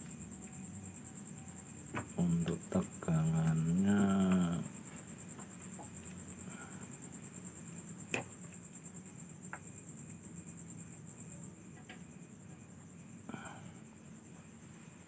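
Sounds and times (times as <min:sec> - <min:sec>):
cricket chirping: 0:00.0 - 0:15.0
faint low hum: 0:00.0 - 0:15.0.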